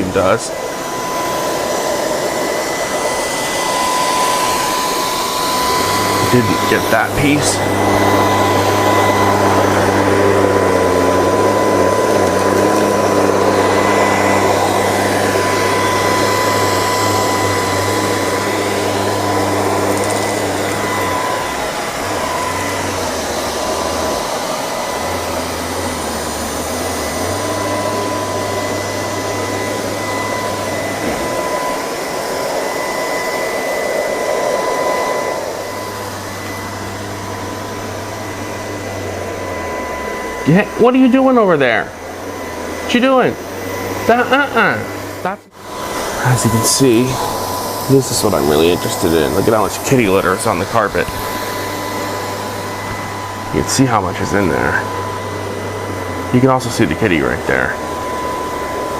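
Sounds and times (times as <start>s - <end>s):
robot vacuum running: 0.0s - 58.9s.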